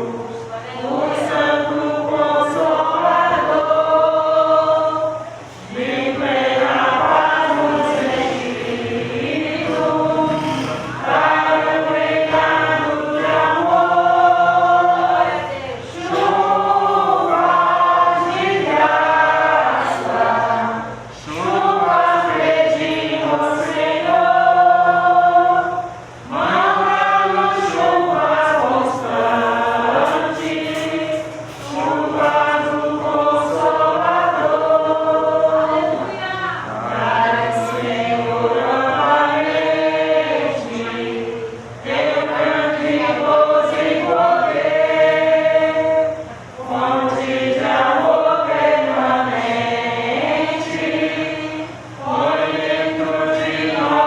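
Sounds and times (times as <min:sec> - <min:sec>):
woman singing a hymn: 0:00.0 - 0:54.0.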